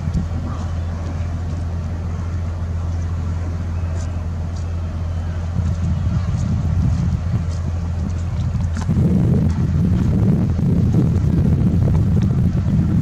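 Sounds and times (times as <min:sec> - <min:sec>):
distant voices: 0:00.0 - 0:13.0
engine running steadily: 0:00.0 - 0:13.0.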